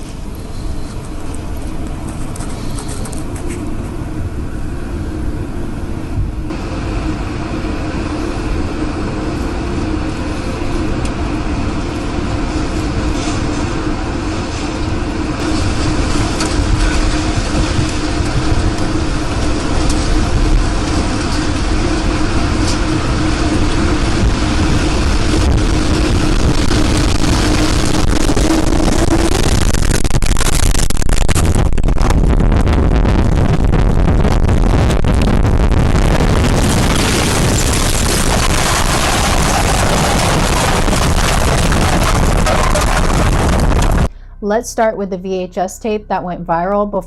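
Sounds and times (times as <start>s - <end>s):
tornado wind buffeting microphone: 0.0s - 45.4s
steady hum: 0.0s - 47.0s.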